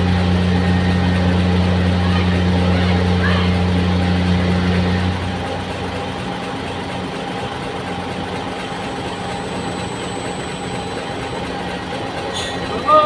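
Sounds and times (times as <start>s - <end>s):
diesel engine drone: 0.0s - 13.0s
loud low hum: 0.0s - 13.0s.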